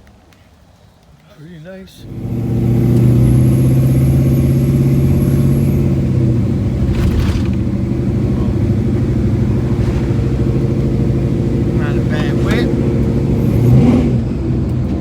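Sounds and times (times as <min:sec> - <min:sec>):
engine running steadily: 0:02.1 - 0:15.0.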